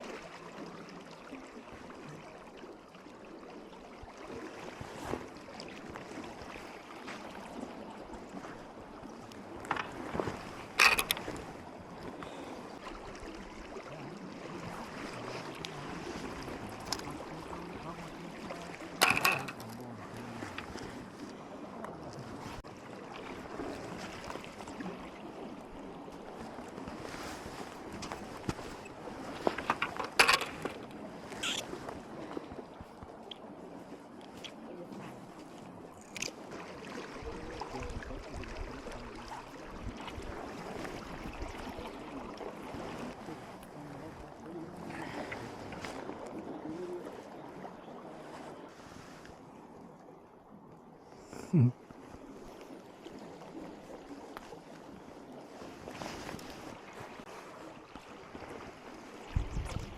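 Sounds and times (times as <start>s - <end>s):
moving water: 0.0s - 59.9s
wind: 0.0s - 59.9s.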